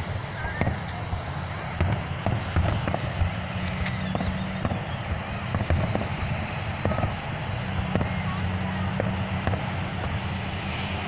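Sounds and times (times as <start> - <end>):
fireworks bursting: 0.0 - 11.0
low hum: 0.0 - 11.0.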